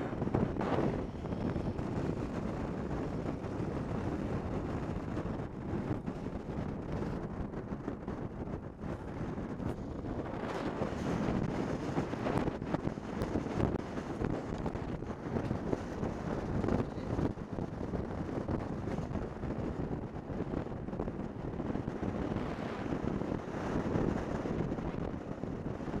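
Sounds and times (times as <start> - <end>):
road noise rumble: 0.0 - 26.0
wind buffeting microphone: 0.0 - 26.0.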